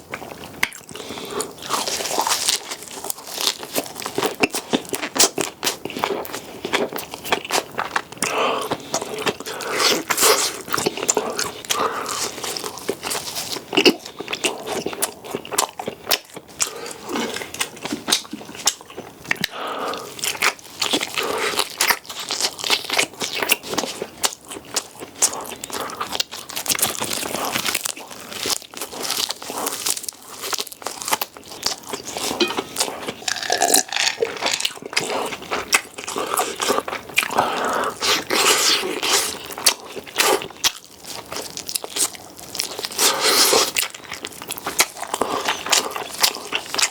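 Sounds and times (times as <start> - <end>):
chewing crunchy food: 0.0 - 46.9.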